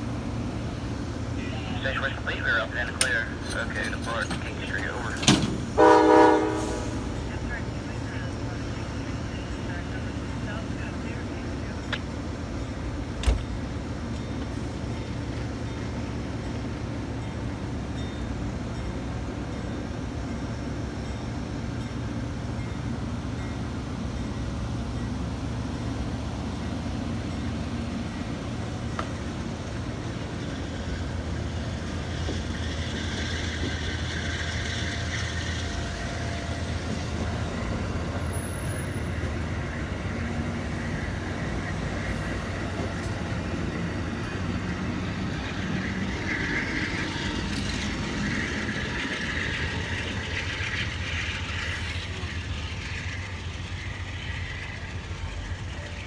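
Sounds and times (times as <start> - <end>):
train hiss: 0.0 - 11.9, 14.5 - 56.0
train wheels rumbling on rails: 0.0 - 56.0.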